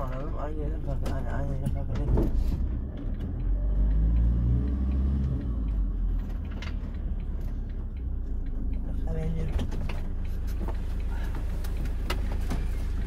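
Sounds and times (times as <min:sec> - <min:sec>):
low road rumble: 0:00.0 - 0:13.0
van engine pulling: 0:00.0 - 0:13.0.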